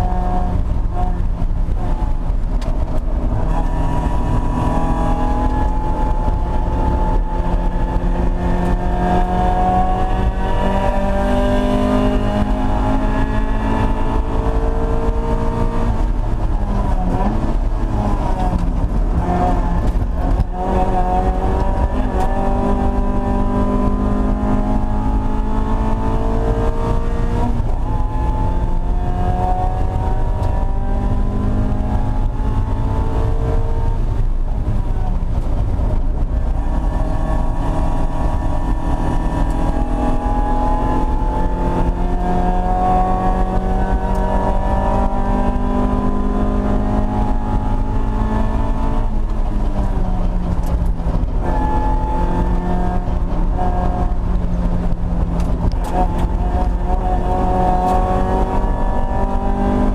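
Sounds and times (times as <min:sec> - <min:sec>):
constant low rumble: 0:00.0 - 0:59.9
race car engine revving: 0:00.0 - 0:59.9.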